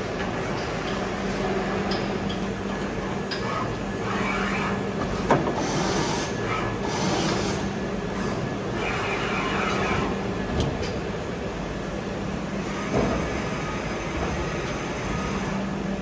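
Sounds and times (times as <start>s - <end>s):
machining centre humming: 0.0s - 16.0s.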